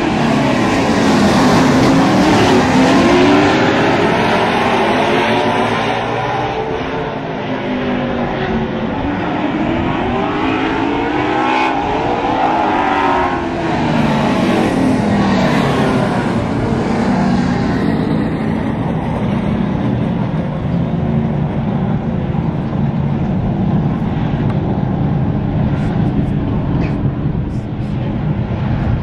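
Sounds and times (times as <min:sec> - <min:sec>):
race car engines passing: 0:00.0 - 0:29.0.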